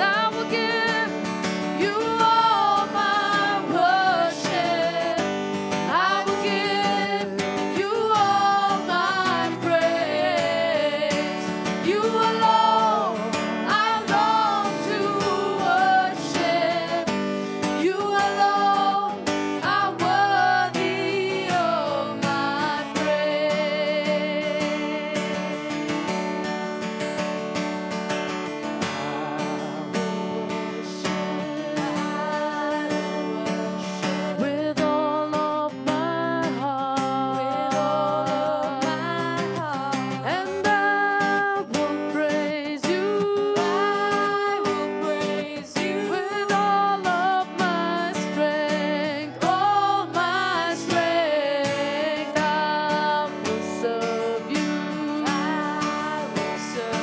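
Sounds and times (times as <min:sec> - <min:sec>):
woman singing backing vocals: 0:00.0 - 0:25.9, 0:29.2 - 0:57.0
woman singing lead: 0:00.0 - 0:26.3, 0:28.8 - 0:57.0
strummed acoustic guitar: 0:00.0 - 0:57.0.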